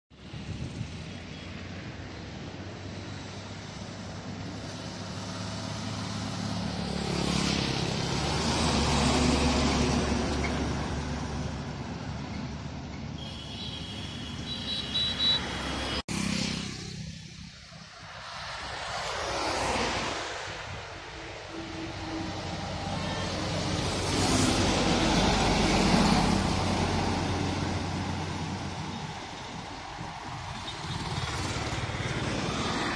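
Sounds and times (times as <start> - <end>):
car passing with tyre whoosh: 1.6 - 12.0, 15.0 - 32.9
truck passing: 1.6 - 13.2, 13.8 - 32.9.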